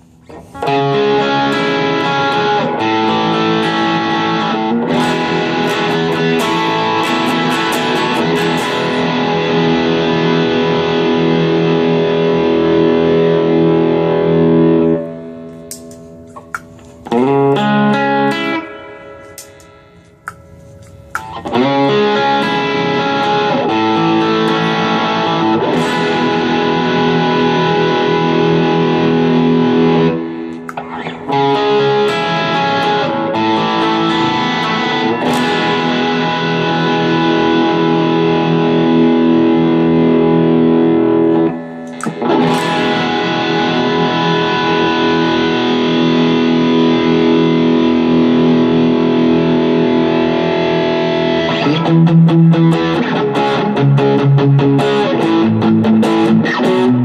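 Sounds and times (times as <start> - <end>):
distorted electric guitar chords: 0.0 - 57.0.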